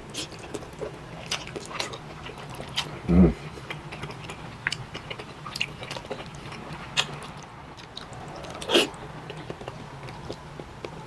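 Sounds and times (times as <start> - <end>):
low steady hum: 0.0 - 11.0
person chewing wetly: 0.0 - 11.0.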